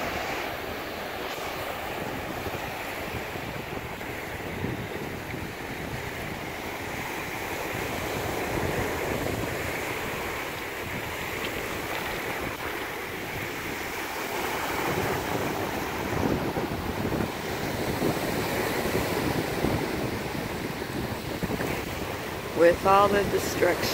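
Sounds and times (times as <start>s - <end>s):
ocean surf breaking: 0.0s - 23.9s
wind buffeting microphone: 0.0s - 23.9s.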